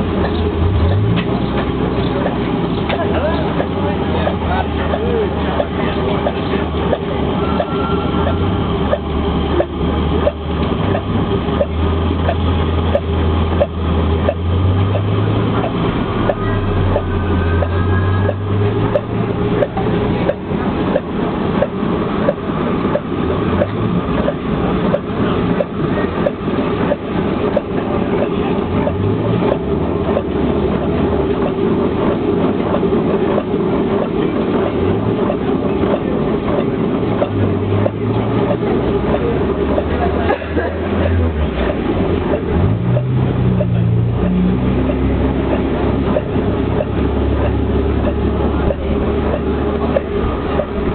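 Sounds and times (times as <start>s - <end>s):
engine clicking knock: 0.0s - 50.9s
low drone: 0.0s - 50.9s.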